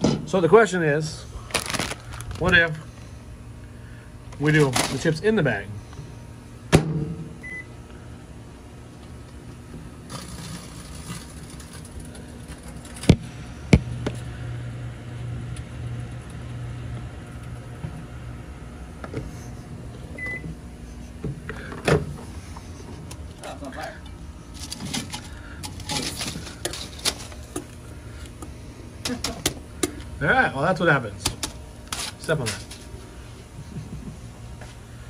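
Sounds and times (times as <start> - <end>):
microwave oven humming: 0.0 - 35.0.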